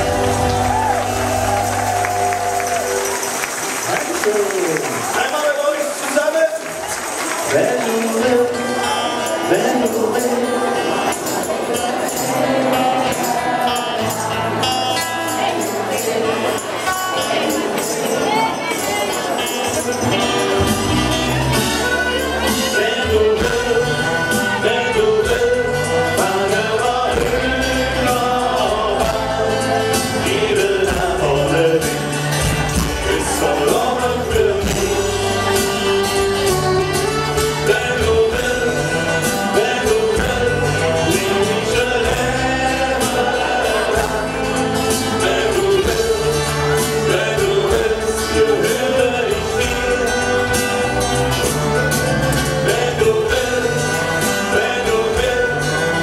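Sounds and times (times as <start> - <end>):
live band music: 0.0 - 56.0
person singing: 7.5 - 56.0.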